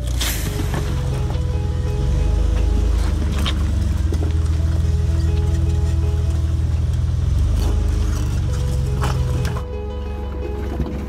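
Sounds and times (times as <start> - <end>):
background music: 0.0 - 11.0
engine running low: 0.0 - 11.0.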